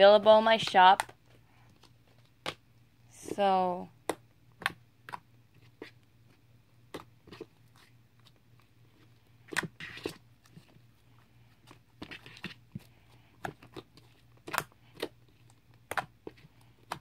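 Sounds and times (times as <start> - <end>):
slime squishing: 0.6 - 17.0.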